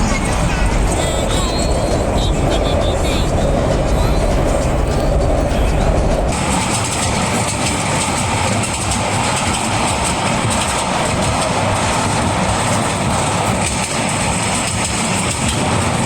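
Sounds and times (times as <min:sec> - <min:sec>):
train running: 0:00.0 - 0:16.0.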